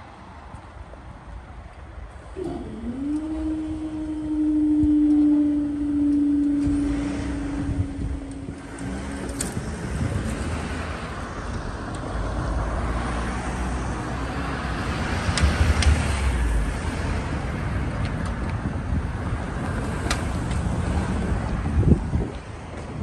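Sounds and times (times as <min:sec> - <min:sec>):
cars and van passing: 0:00.0 - 0:23.0.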